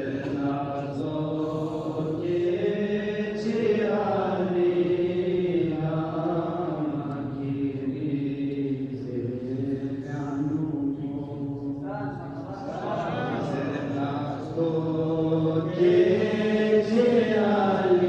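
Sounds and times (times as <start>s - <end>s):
men chanting: 0.0s - 18.0s.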